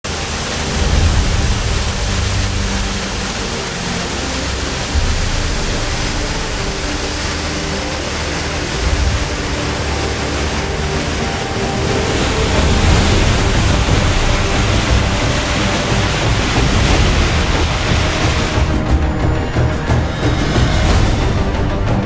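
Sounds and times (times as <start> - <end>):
water pouring over waterfall: 0.0 - 22.0.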